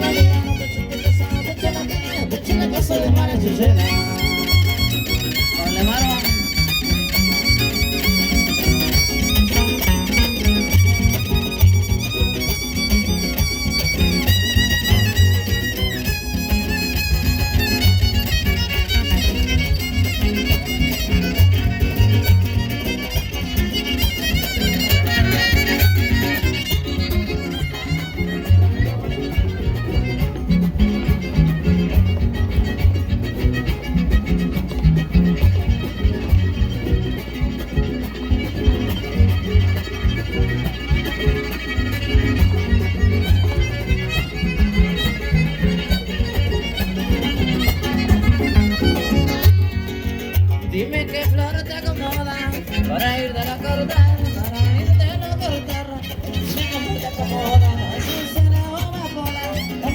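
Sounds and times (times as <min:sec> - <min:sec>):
strummed guitars with bass notes: 0:00.0 - 0:59.9
violin melody: 0:00.0 - 0:59.9.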